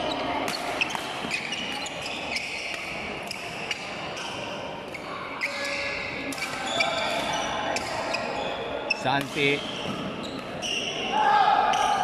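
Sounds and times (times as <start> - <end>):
shoes squeaking on court floor: 0.0 - 11.1.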